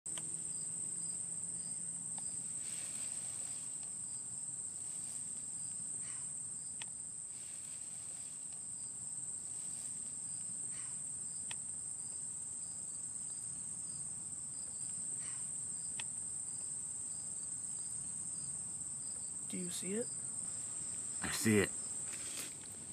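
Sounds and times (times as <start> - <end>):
crickets trilling: 0.1 - 22.9.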